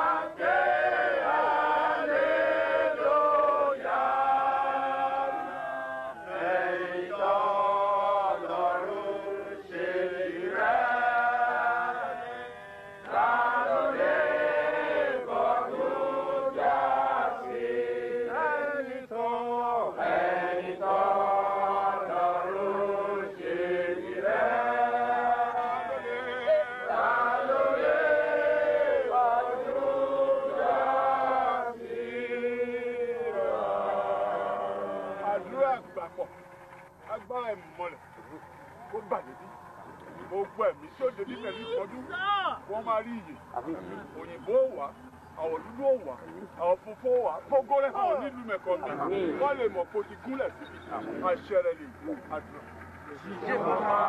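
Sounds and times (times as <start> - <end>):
voices chanting a prayer: 0.0 - 54.0.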